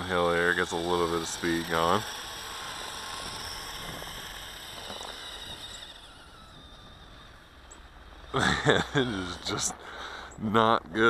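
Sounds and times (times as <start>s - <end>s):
toy track hissing on snow: 0.0s - 10.3s
toy electric motor whine: 0.0s - 10.4s.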